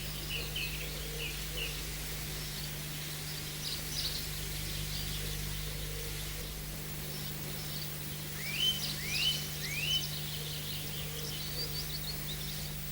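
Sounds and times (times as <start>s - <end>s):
songbirds chirping: 0.0s - 12.9s.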